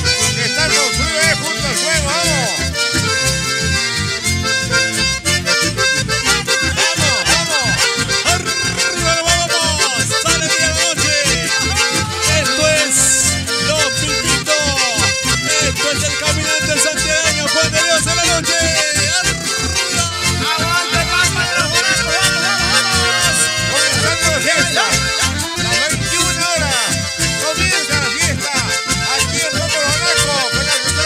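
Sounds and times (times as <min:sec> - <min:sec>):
accordion dance music: 0:00.0 - 0:31.0
steady bass beat: 0:00.0 - 0:31.0.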